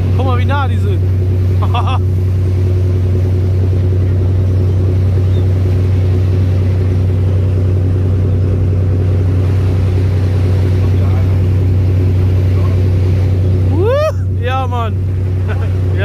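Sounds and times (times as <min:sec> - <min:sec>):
boat diesel engine droning: 0:00.0 - 0:16.0.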